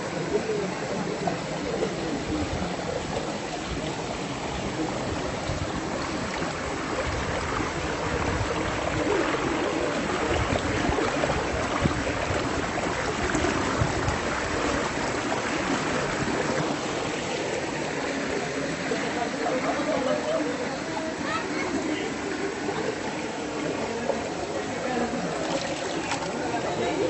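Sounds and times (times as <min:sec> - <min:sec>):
flowing river water: 0:00.0 - 0:27.0.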